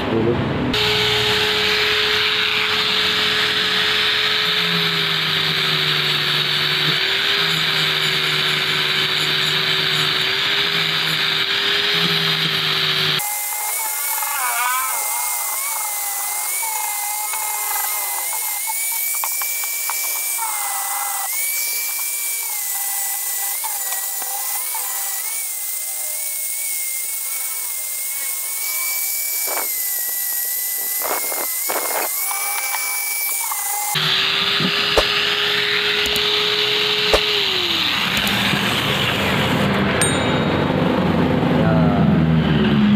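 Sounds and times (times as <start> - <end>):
angle grinder whine: 0.7 - 42.9.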